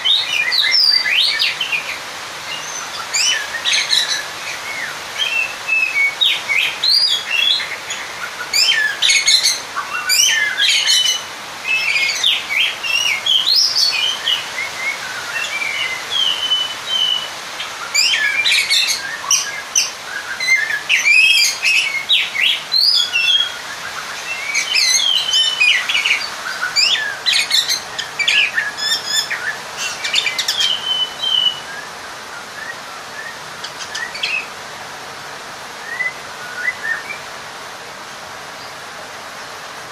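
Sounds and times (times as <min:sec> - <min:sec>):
bird singing whistles and chatter: 0:00.0 - 0:34.5, 0:35.8 - 0:37.2.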